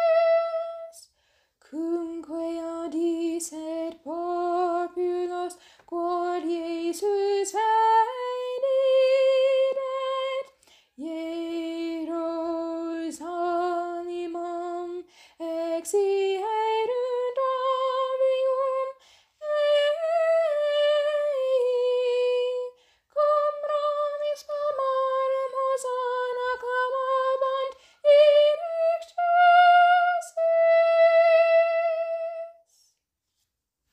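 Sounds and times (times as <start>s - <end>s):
woman singing a hymn solo: 0.0s - 1.0s, 1.6s - 32.6s.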